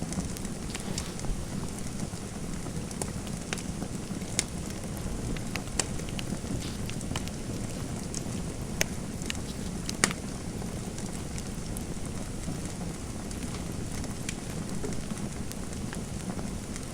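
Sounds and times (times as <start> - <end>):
fireplace fire crackling: 0.0 - 16.9.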